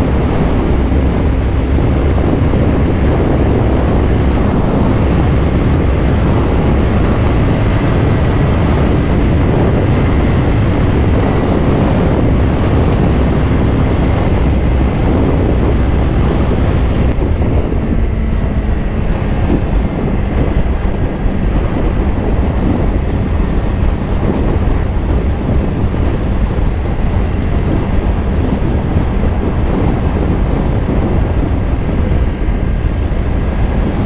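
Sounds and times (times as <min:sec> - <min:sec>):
motorcycle engine cruising: 0:00.0 - 0:34.0
wind buffeting microphone: 0:00.0 - 0:34.0.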